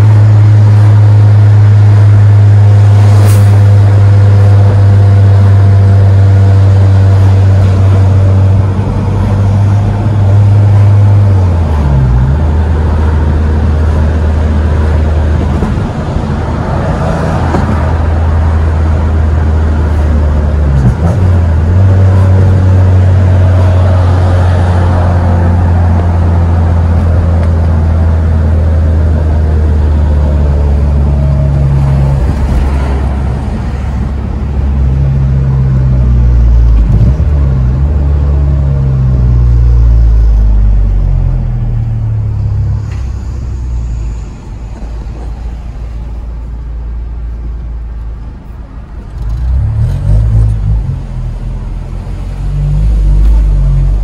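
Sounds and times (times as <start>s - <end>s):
loud car exhaust drone: 0.0s - 54.0s.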